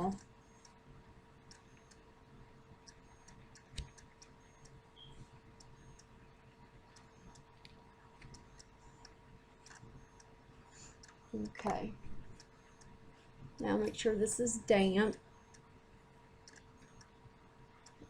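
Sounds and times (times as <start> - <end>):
small irregular clicks: 0.0 - 14.1, 15.1 - 18.0
faint steady hum: 0.0 - 18.0.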